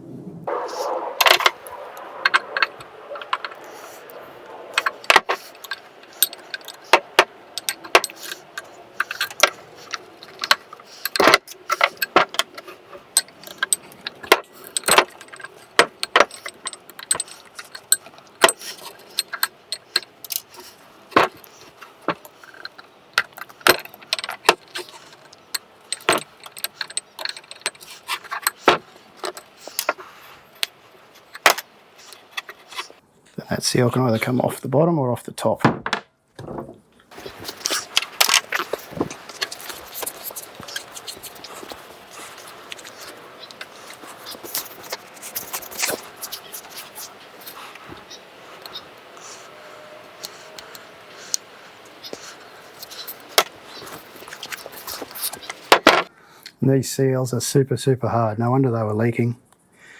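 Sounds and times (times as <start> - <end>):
hand tools clinking on metal: 0.6 - 33.0, 37.1 - 56.1.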